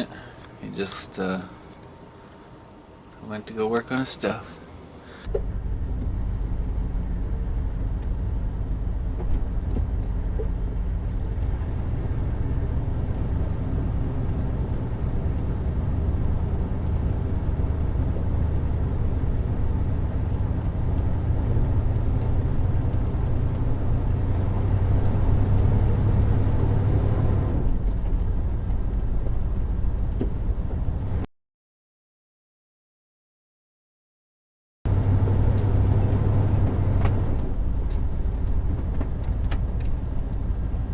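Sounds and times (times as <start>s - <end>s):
engine and road rumble: 0.0s - 31.3s, 34.9s - 40.9s.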